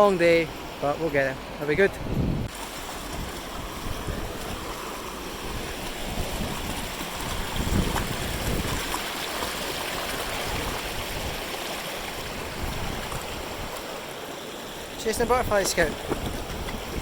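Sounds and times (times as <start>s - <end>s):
mountain stream rushing: 0.0s - 17.0s
wind buffeting microphone: 1.7s - 13.9s, 15.1s - 17.0s.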